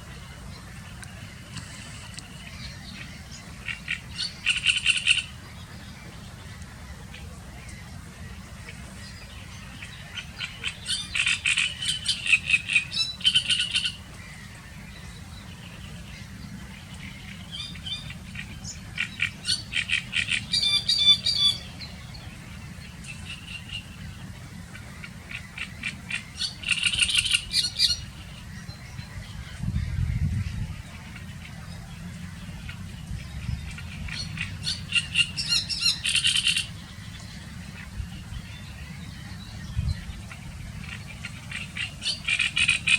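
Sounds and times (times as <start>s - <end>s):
bird singing harsh croaking song: 0.0s - 42.9s.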